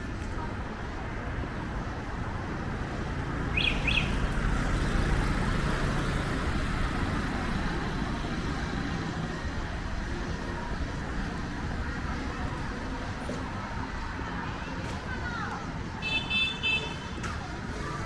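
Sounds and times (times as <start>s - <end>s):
street noise rumble: 0.0s - 18.0s.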